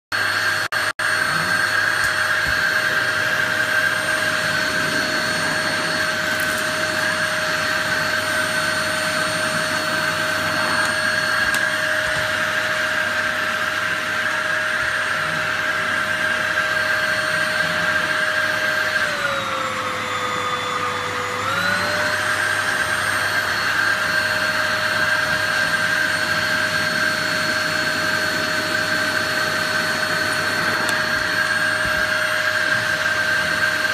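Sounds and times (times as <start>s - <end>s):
vacuum cleaner running: 0.1s - 33.9s.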